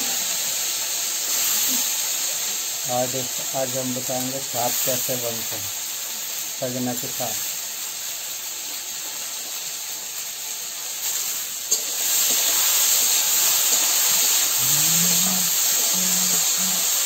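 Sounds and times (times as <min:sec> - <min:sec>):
potato frying in oil: 0:00.0 - 0:17.0.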